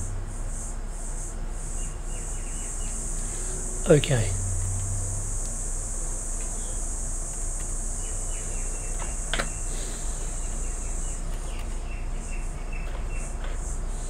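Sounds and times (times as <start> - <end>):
high-pitched insect chirring: 0.0 - 14.0
low steady hum: 0.0 - 14.0.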